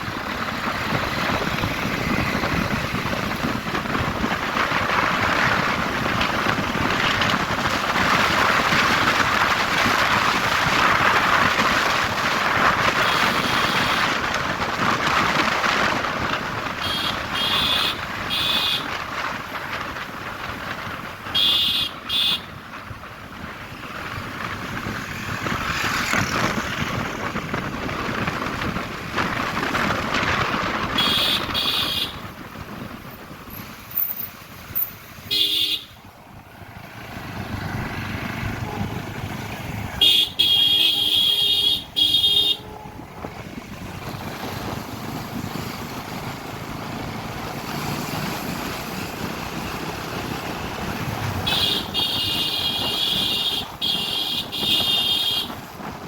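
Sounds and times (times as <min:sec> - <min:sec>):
wind buffeting microphone: 0:00.0 - 0:21.4, 0:22.0 - 0:56.0
road traffic noise: 0:00.0 - 0:56.0.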